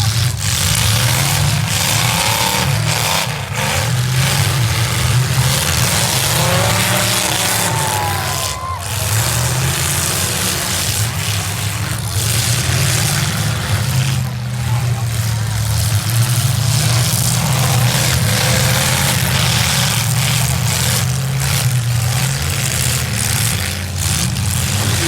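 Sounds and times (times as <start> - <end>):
car engines droning: 0.0 - 25.0
engines revving: 0.0 - 25.0.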